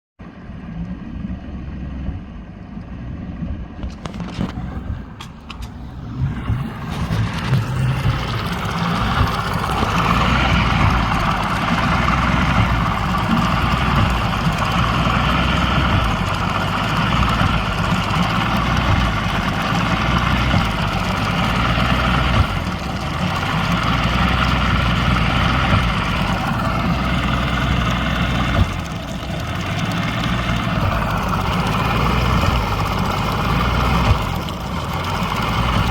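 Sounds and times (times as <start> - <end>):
outboard motor running: 0.2 - 35.9.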